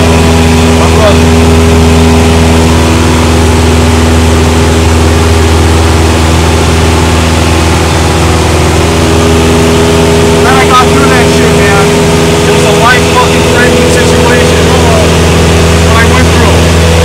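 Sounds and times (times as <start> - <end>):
aircraft engine droning in cabin: 0.0 - 17.0.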